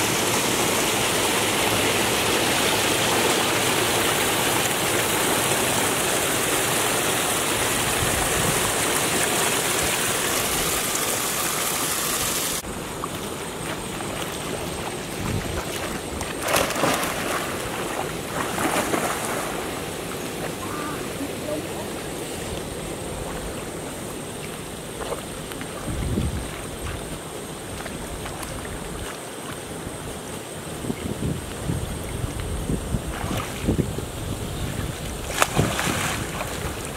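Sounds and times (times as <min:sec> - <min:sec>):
swimmer splashing: 0:00.0 - 0:30.3, 0:34.8 - 0:36.9
river water: 0:00.0 - 0:36.9
water rushing over rocks: 0:00.0 - 0:36.9.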